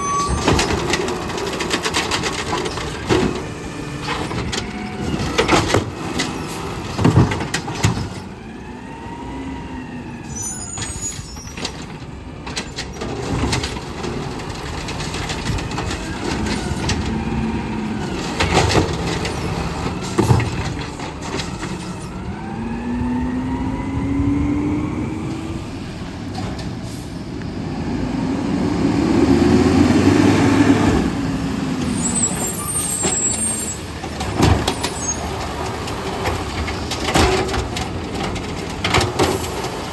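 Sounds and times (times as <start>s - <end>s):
garbage truck engine running: 0.0s - 39.9s
hydraulics whining: 0.0s - 39.9s.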